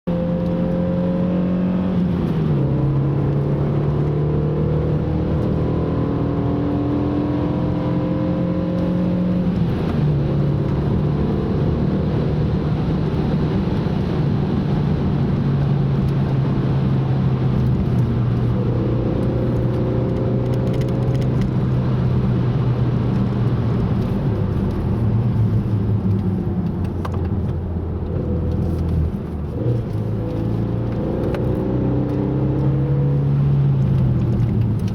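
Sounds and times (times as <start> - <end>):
car engine shifting gears: 0.1 - 34.9
road noise: 0.1 - 34.9.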